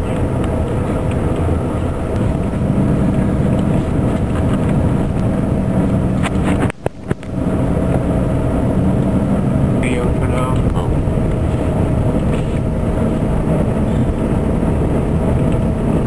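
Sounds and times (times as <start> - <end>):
vehicle interior rumble: 0.0 - 16.0.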